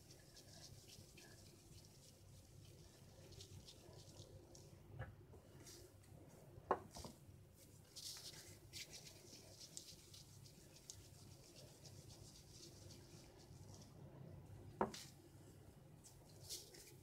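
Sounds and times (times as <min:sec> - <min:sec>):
hands rolling cookie dough: 0:00.0 - 0:17.0.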